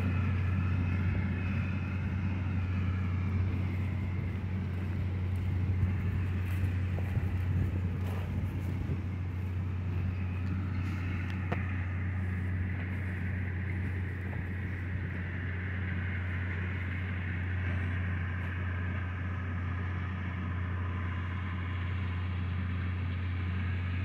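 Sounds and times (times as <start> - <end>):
distant tractor engine running: 0.0 - 24.0.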